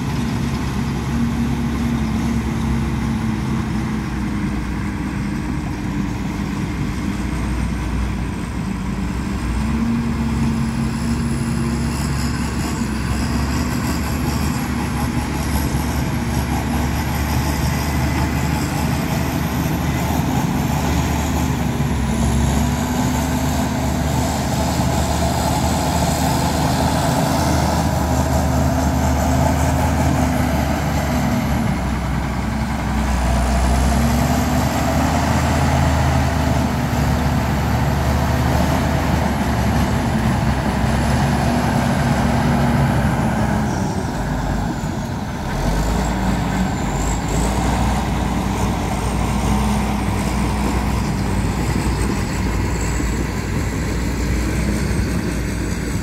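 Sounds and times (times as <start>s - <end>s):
diesel construction equipment running: 0.0s - 56.0s.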